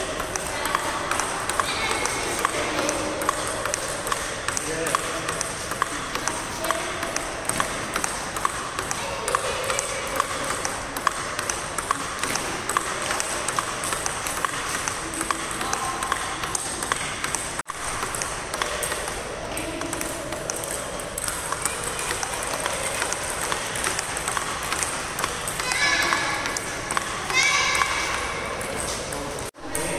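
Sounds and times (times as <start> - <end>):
table tennis ball clicking: 0.1 - 29.9.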